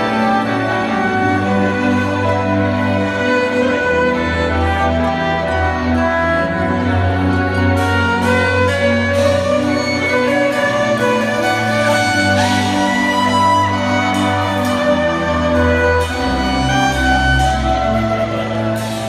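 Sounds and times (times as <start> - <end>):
backing track with drums and bass: 0.0 - 19.0
electric violin melody: 0.0 - 19.0.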